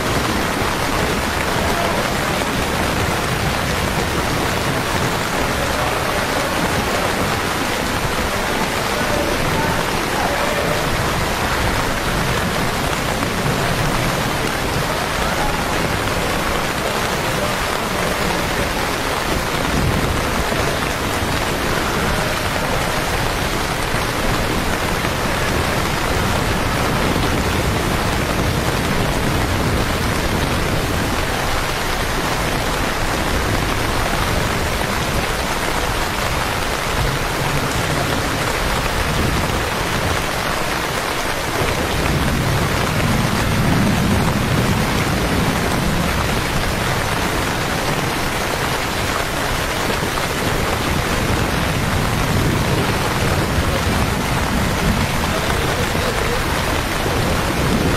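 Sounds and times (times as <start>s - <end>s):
rain on stone pavement: 0.0s - 57.9s.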